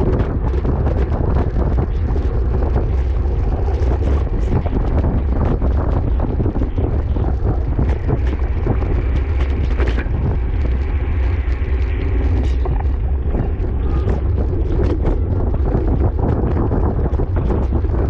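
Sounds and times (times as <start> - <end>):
scattered clicks and rattles: 0.0 - 18.0
wind buffeting microphone: 0.0 - 18.0.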